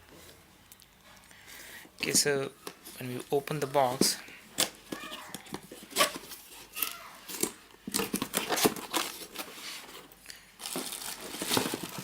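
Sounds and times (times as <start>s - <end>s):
packaging rustling and crinkling: 2.0s - 12.0s.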